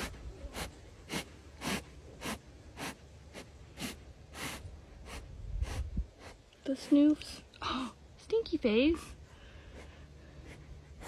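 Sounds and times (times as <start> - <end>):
jaguar sniffing: 0.0 - 7.4, 8.8 - 11.0.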